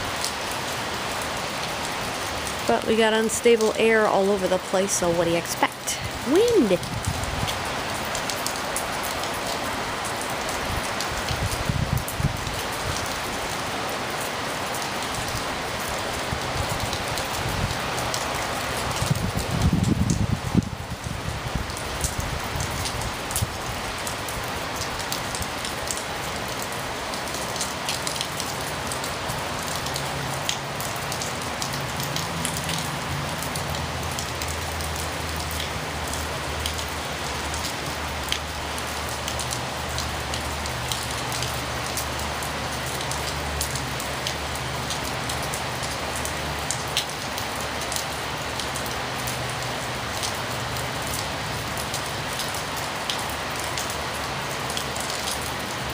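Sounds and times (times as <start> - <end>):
distant freeway traffic roar: 0.0 - 55.9
heavy rain falling: 0.0 - 55.9.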